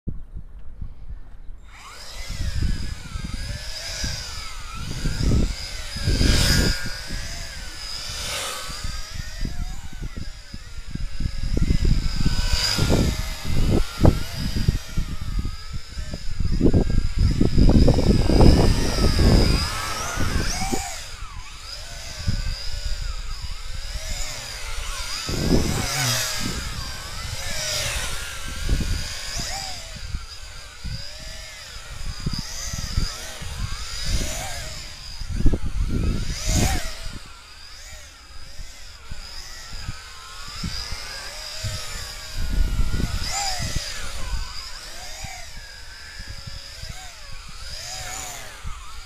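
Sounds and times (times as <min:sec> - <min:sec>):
wind buffeting microphone: 0:00.1 - 0:49.0
drone propellers whining: 0:01.3 - 0:49.0.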